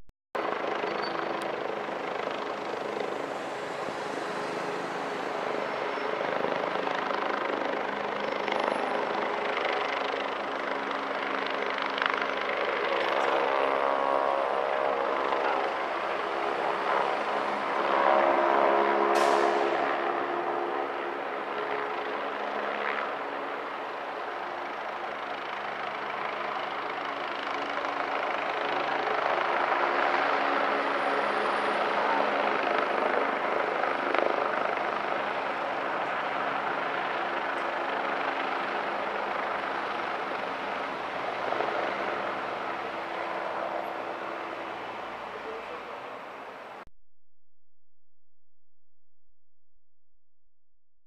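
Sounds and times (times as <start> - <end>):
helicopter flying low overhead: 0.4 - 46.9.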